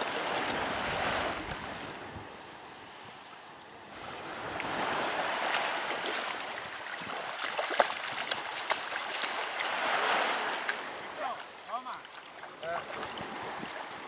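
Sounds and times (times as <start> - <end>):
water washing and splashing: 0.0 - 1.7, 4.3 - 14.0.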